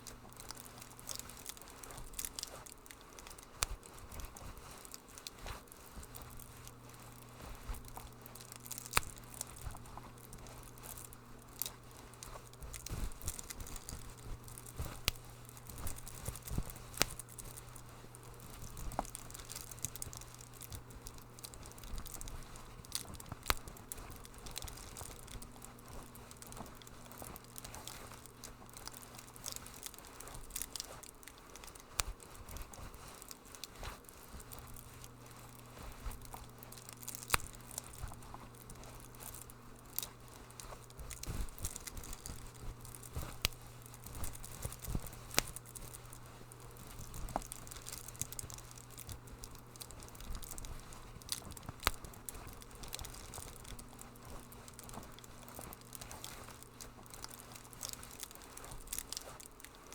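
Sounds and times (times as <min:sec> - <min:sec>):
faint low hum: 0:00.0 - 0:59.9
wood fire crackling: 0:00.0 - 0:59.9.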